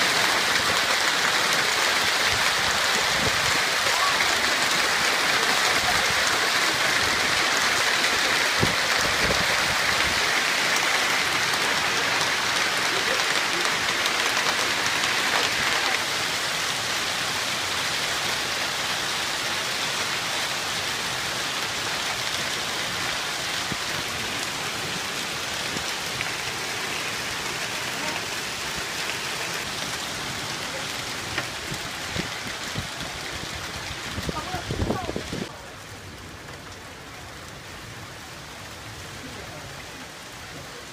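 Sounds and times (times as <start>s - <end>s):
hail and heavy rain pelting: 0.0s - 40.9s.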